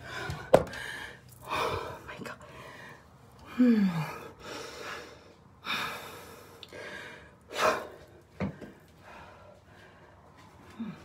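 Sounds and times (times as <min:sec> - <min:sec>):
woman breathing heavily: 0:00.0 - 0:11.0.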